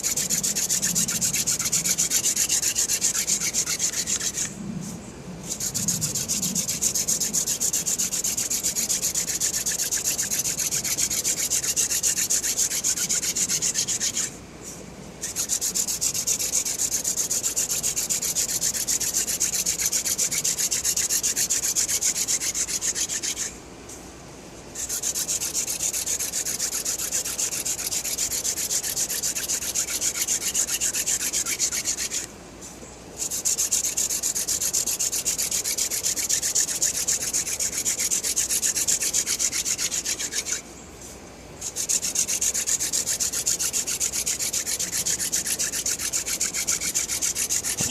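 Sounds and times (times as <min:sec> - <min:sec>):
wooden spindle rasping on board: 0:00.0 - 0:04.5, 0:05.5 - 0:14.3, 0:15.2 - 0:23.5, 0:24.8 - 0:32.3, 0:33.2 - 0:40.6, 0:41.6 - 0:47.9.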